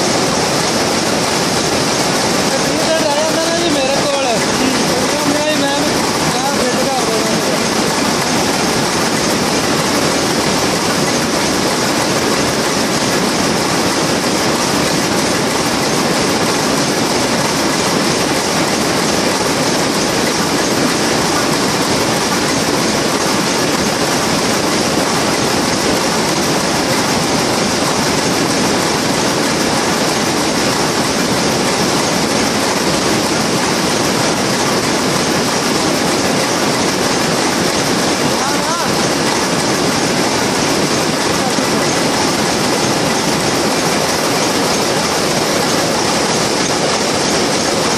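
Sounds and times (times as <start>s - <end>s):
looms clattering: 0.0s - 47.9s.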